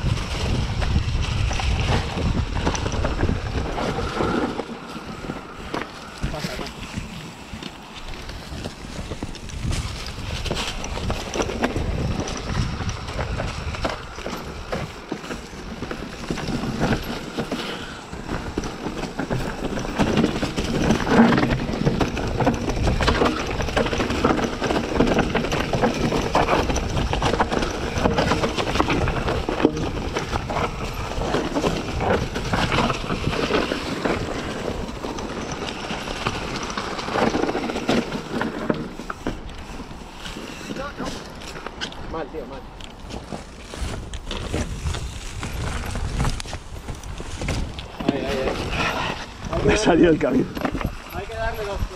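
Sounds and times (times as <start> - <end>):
bike clattering over stones: 0.0 - 51.9.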